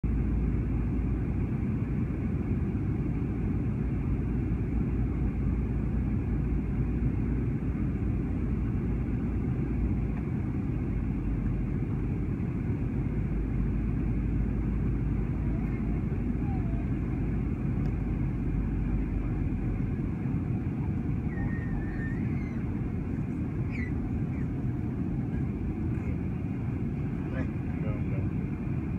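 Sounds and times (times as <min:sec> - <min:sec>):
airliner cabin engine roar: 0:00.0 - 0:28.9.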